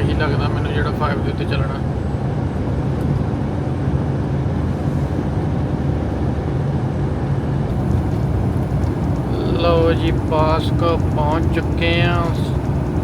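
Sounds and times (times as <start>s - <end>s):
diesel truck engine drone: 0.0s - 13.0s
road noise: 0.0s - 13.0s.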